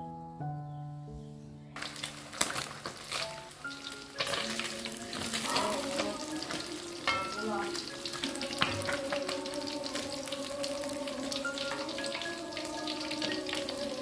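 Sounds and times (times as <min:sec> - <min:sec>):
fish sizzling in hot oil: 0:01.8 - 0:14.0.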